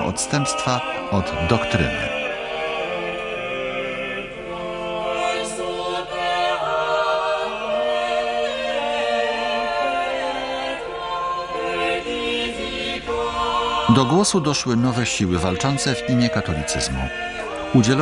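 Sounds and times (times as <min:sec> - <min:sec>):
unaccompanied choir singing: 0:00.0 - 0:18.0.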